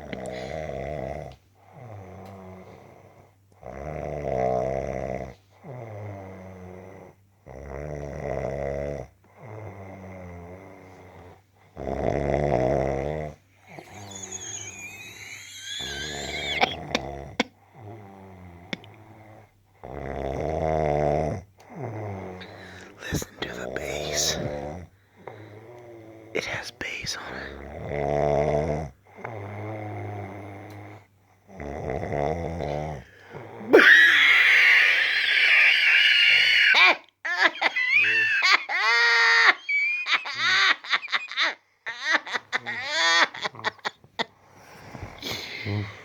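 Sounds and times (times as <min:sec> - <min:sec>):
person snoring: 0:00.0 - 0:03.0, 0:03.6 - 0:36.8, 0:37.9 - 0:38.5, 0:44.6 - 0:46.0.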